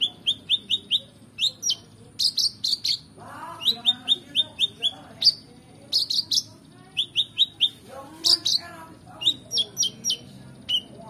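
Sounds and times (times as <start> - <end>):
bird chirping high notes: 0.0 - 11.0.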